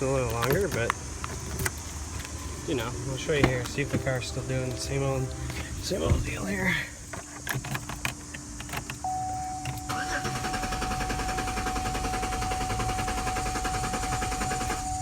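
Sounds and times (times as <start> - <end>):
car engine cranking: 0.0 - 15.0.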